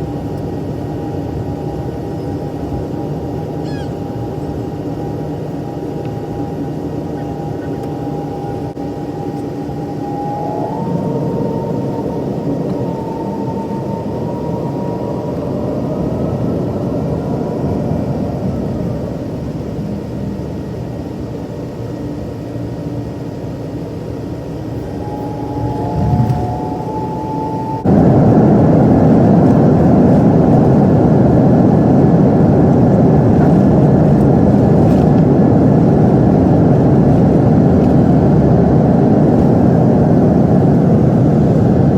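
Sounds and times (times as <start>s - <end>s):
jet engine hum and whine: 0.0s - 41.9s
loud jet engine rush: 0.0s - 41.9s.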